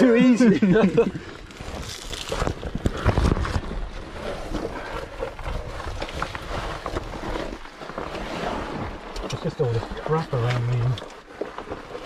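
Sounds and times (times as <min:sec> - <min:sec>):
clothing and kit scraping on rock: 0:01.5 - 0:12.0.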